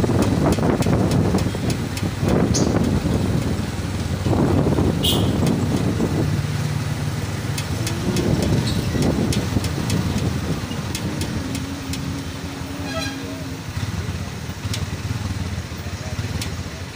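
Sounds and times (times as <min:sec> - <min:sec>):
vehicle engine and road noise: 0:00.0 - 0:16.9.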